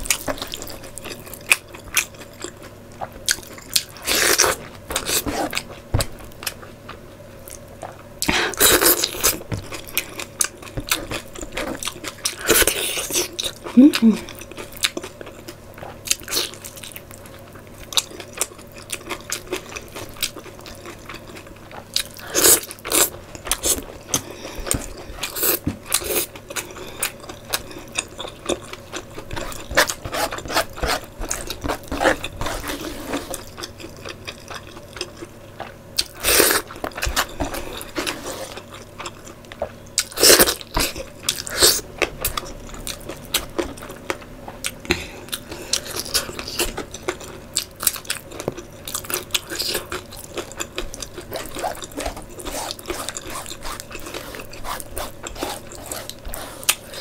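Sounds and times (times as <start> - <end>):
close chewing and biting: 0.0 - 57.0.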